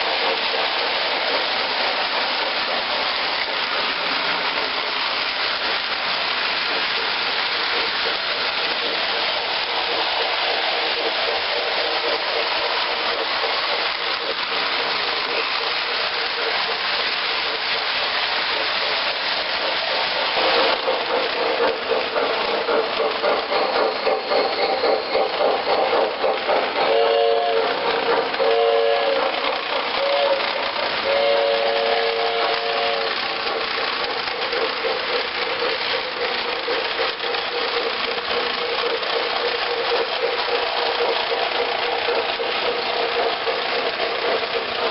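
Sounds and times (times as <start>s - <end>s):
model steam locomotive chuffing: 0.0s - 44.9s.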